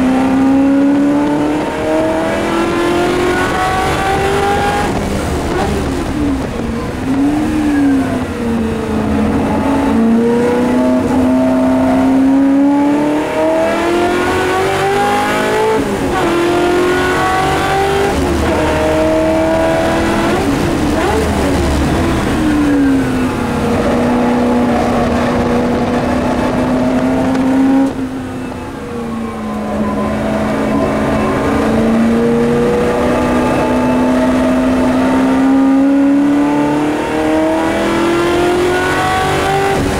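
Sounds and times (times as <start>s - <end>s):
race car engine accelerating: 0.0s - 39.9s.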